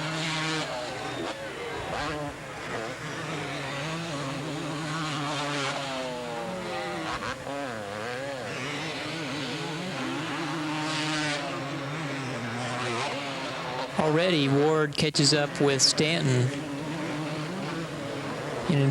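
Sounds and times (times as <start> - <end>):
motocross bikes revving: 0.0 - 18.9.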